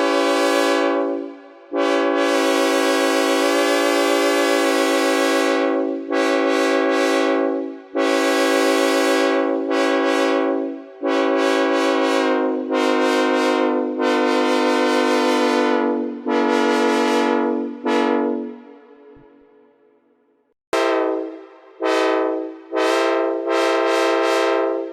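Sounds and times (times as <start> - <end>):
train horn blasts: 0.0 - 19.8, 20.7 - 24.9.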